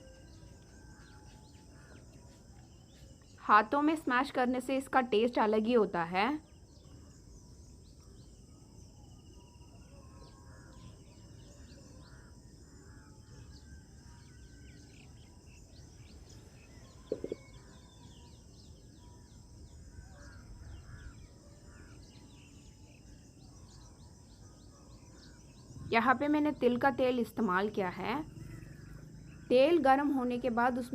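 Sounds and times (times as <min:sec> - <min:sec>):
high insect drone: 0:00.0 - 0:04.8, 0:06.3 - 0:30.9
small birds chirping: 0:00.0 - 0:30.9.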